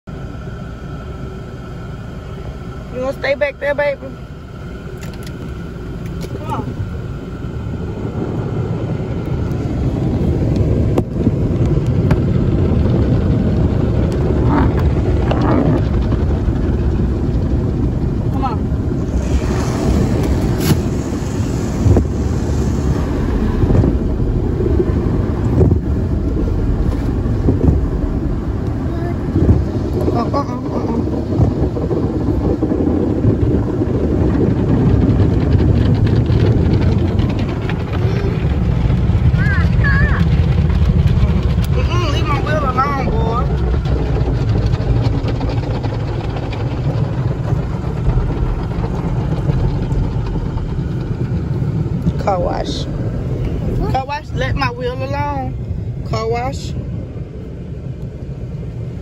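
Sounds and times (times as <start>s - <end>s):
car wash water spray and brushes: 0.1s - 59.0s.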